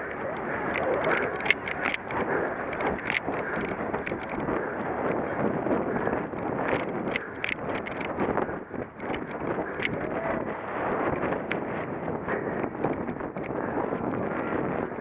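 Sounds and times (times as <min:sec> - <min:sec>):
bike rattling over rough ground: 0:00.0 - 0:15.0
sharp clicks and clatters: 0:00.0 - 0:15.0
wind buffeting microphone: 0:00.0 - 0:15.0.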